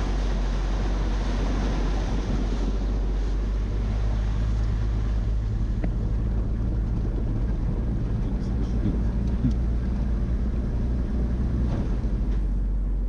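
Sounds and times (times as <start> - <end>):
car engine droning: 0.0 - 13.0
rough road noise: 0.0 - 13.0
wind: 0.0 - 13.0.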